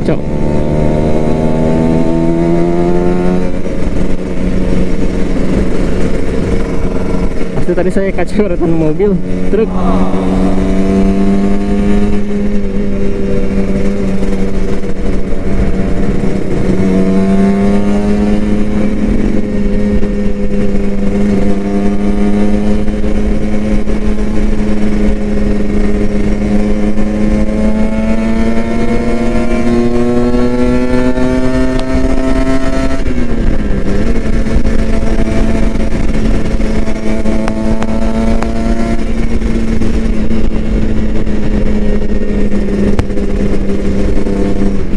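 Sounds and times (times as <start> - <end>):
motorcycle engine at high revs: 0.0 - 44.9.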